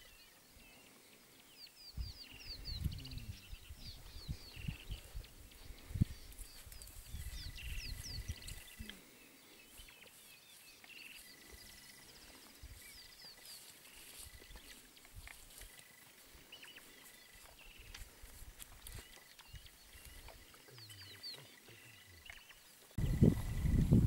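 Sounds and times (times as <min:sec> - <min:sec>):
wild birds chirping: 0:00.0 - 0:24.0.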